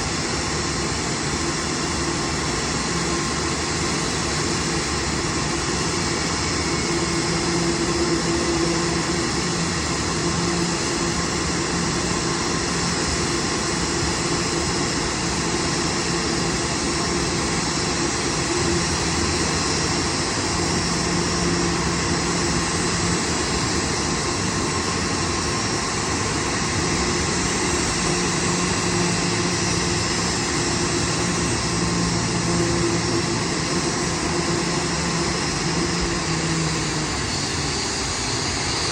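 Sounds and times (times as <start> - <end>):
parked airliner hum and rush: 0.0 - 38.9.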